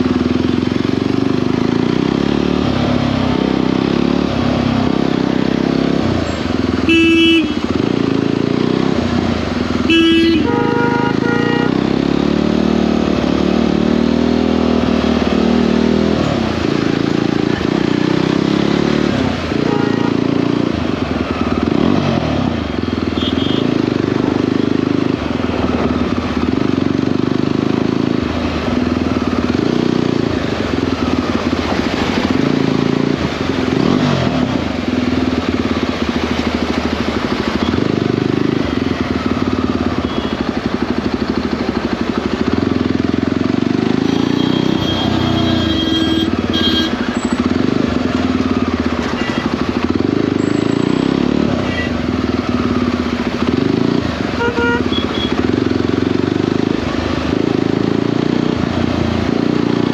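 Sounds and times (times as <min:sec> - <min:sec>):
motorcycle engine running: 0:00.0 - 0:59.9
road and air noise: 0:00.0 - 0:59.9.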